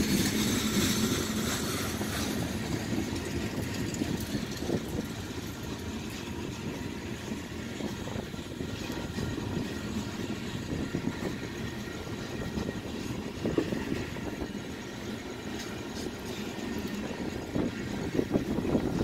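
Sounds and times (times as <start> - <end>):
freight train wheels rumbling on rail: 0.0 - 19.0
sharp clicks of train wheels: 0.0 - 19.0.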